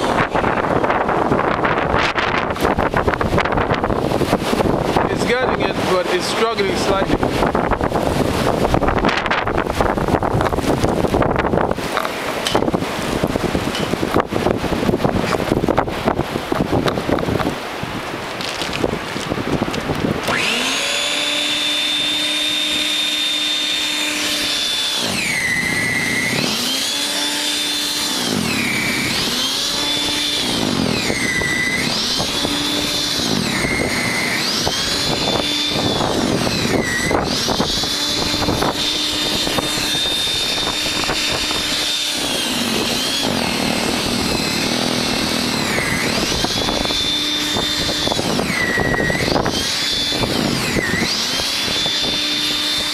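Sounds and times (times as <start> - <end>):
snow thrower motor whining: 0.0 - 52.9.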